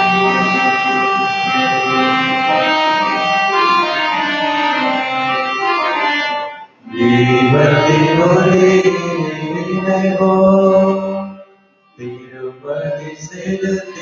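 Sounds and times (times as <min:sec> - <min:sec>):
instrumental church hymn music: 0:00.0 - 0:14.0.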